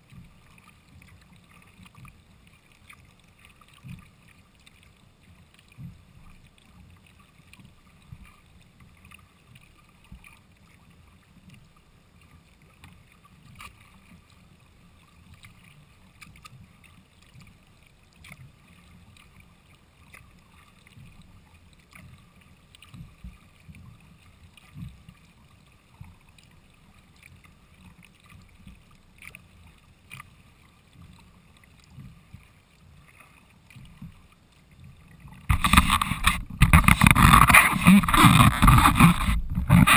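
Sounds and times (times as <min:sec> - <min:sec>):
paddle strokes: 0:00.0 - 0:39.9
water washing along hull: 0:00.0 - 0:39.9.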